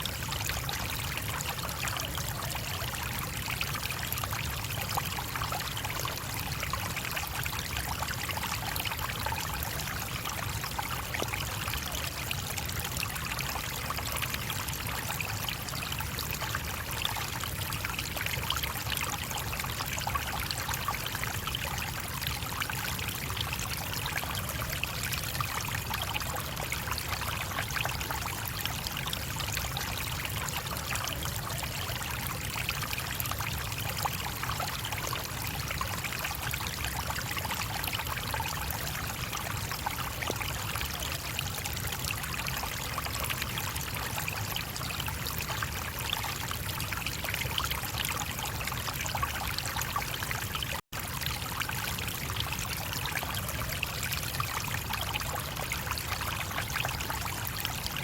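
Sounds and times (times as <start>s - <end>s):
brook flowing: 0.0s - 58.0s.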